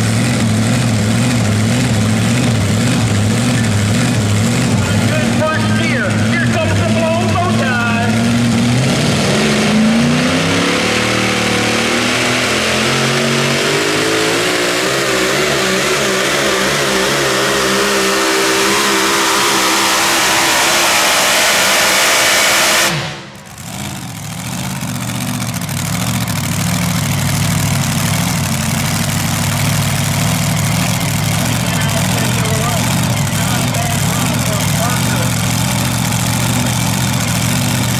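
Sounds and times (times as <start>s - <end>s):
engine running at lower pitch: 0.0s - 37.9s
truck engine at full throttle: 0.0s - 37.9s.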